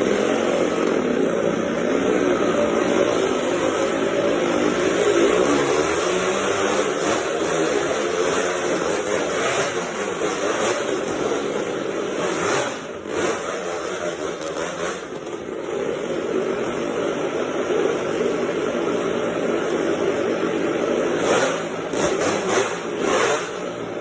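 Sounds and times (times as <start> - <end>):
dirt bike engine running hard: 0.0 - 24.0.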